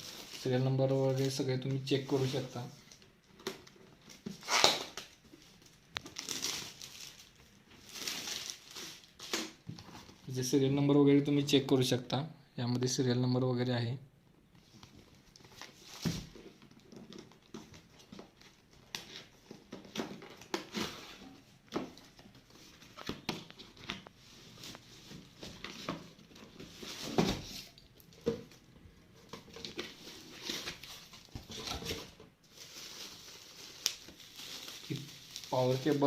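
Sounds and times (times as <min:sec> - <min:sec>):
wrapping rustling and crinkling: 0:00.0 - 0:10.4, 0:14.6 - 0:36.0.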